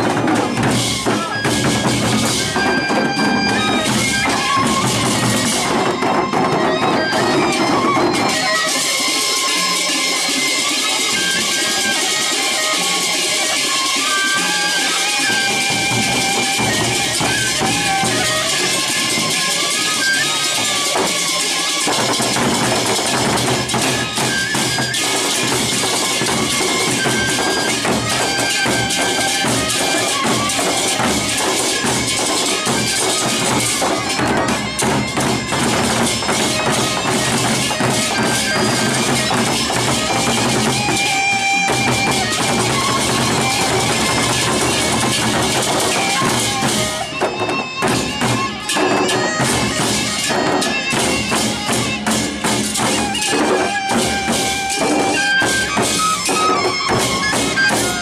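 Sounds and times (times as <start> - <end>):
barrel drums beaten fast: 0.0 - 58.0
hand cymbals clashing: 0.0 - 58.0.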